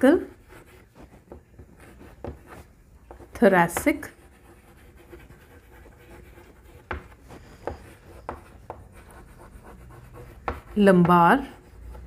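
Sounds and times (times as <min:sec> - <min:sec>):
chalk scratching on chalkboard: 0:00.2 - 0:12.0
chalk tapping on board: 0:00.6 - 0:12.0.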